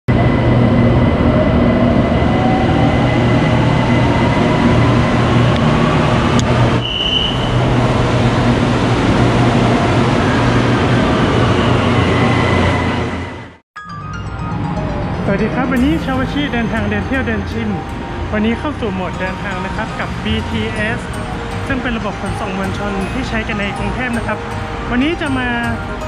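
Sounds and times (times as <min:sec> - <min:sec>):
electric train rumble: 0:00.1 - 0:13.6, 0:14.4 - 0:26.0.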